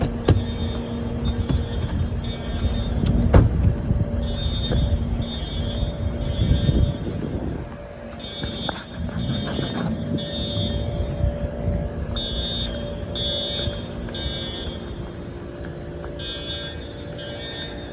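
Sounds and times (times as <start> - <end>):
steady low rumble: 0.0 - 17.8
fire alarm horn blasts: 0.1 - 17.9.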